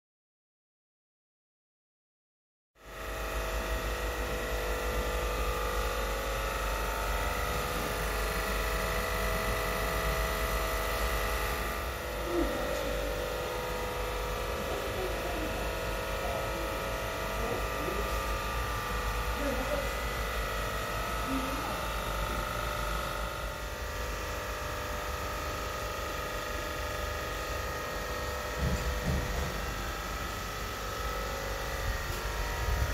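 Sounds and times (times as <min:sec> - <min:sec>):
refrigeration machinery humming: 0:02.8 - 0:32.9
compressors droning: 0:02.9 - 0:32.9.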